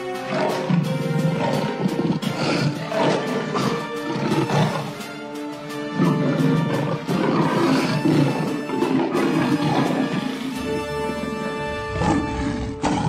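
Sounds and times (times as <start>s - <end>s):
lion growling: 0.0s - 5.2s, 5.8s - 13.0s
background music: 0.0s - 13.0s.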